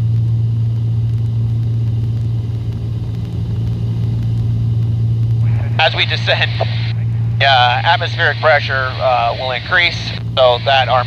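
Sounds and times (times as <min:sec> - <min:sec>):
piston engines droning in cabin: 0:00.0 - 0:11.0.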